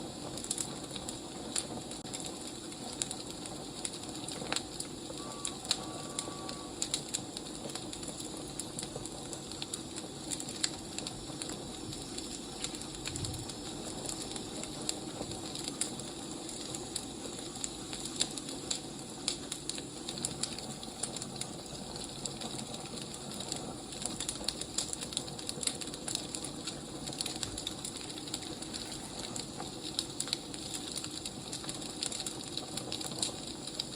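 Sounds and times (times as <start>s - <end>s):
fire hissing: 0.0s - 33.9s
wood fire crackling: 0.0s - 33.9s.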